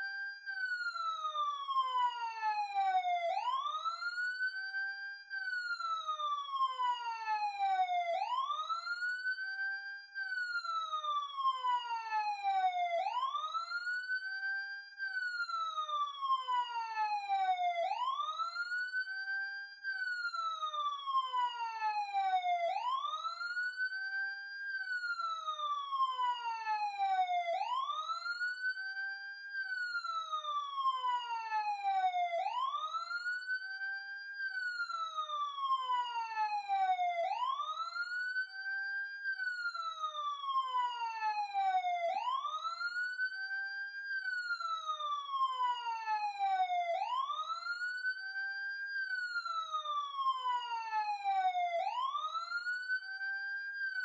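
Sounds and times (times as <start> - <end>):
emergency siren wailing: 0.0 - 54.0.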